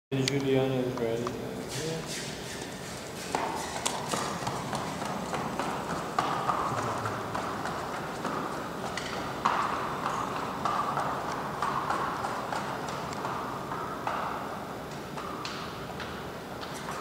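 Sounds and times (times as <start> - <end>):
horse hooves clip-clopping: 2.2 - 17.0.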